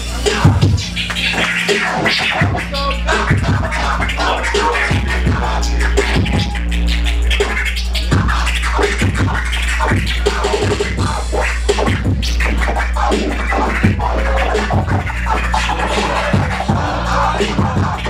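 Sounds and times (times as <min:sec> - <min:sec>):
hip hop beat with heavy bass: 0:00.0 - 0:18.0
turntable scratching: 0:00.0 - 0:18.0.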